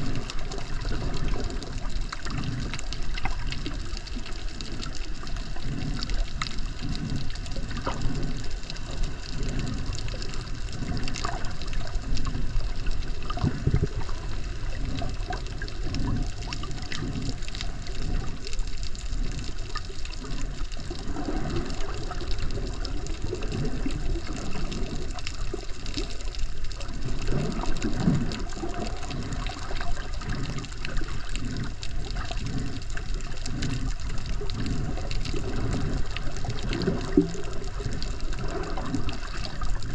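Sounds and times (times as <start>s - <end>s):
water sloshing underwater: 0.0s - 39.9s.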